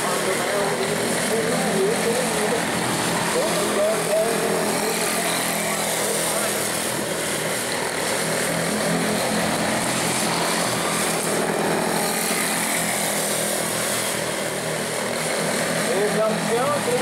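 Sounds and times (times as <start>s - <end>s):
race car engines buzzing: 0.0s - 17.0s.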